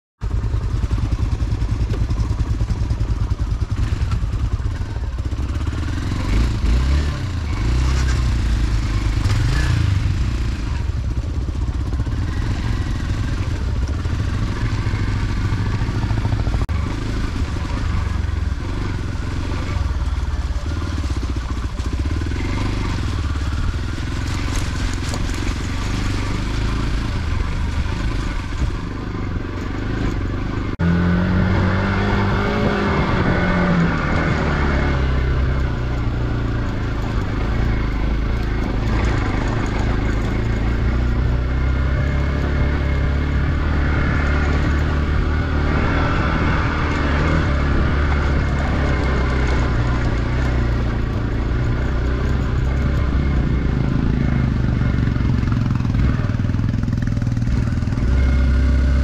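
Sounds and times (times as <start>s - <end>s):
motorcycle engine running: 0.2s - 59.0s.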